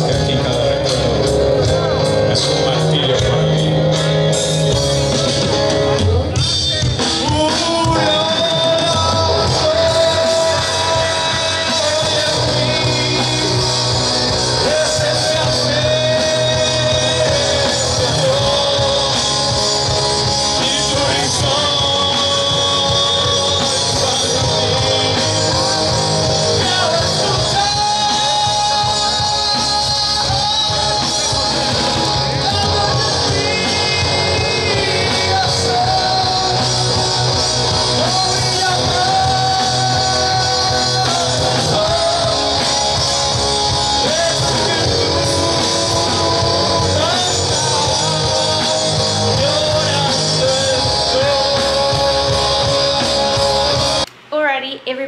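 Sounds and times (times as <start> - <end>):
bass guitar: 0.0 - 54.1
electric guitars: 0.0 - 54.3
drum kit: 0.0 - 55.0.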